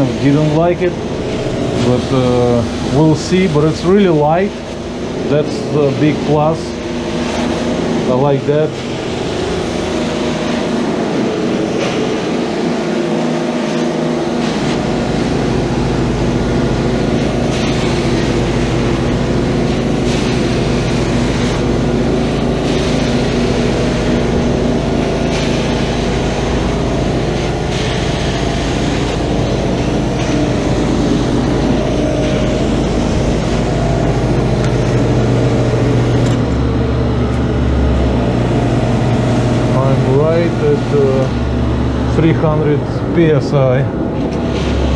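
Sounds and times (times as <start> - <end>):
carpet extractor motors humming: 0.0 - 44.9
deeper motor hum: 0.0 - 44.9.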